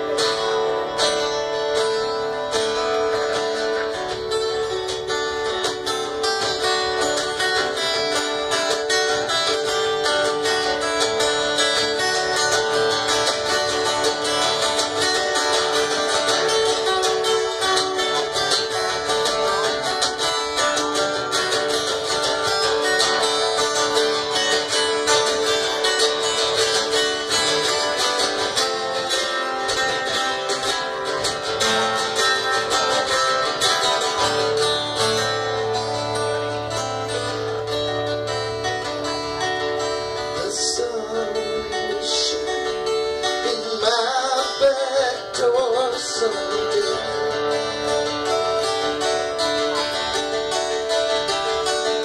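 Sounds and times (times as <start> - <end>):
picked guitar lead line: 0.0 - 52.0
strummed acoustic guitar: 0.0 - 52.0.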